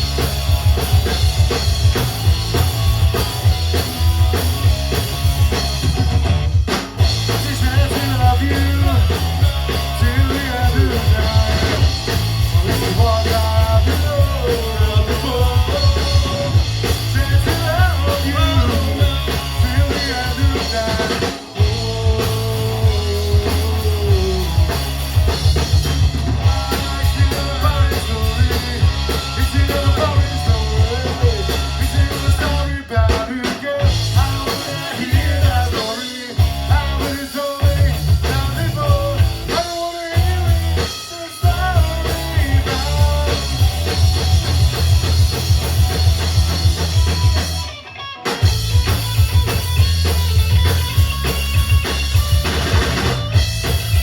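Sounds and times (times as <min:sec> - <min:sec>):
punk rock band playing: 0:00.0 - 0:54.0.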